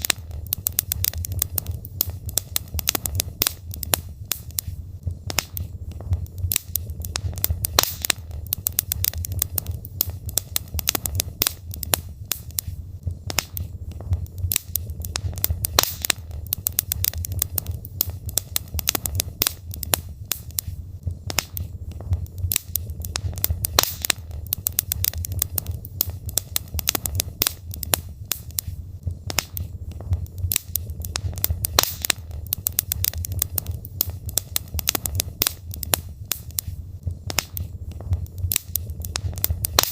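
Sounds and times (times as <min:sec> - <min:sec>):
burning logs popping: 0:00.0 - 0:39.9
low rumble of flames: 0:00.0 - 0:39.9.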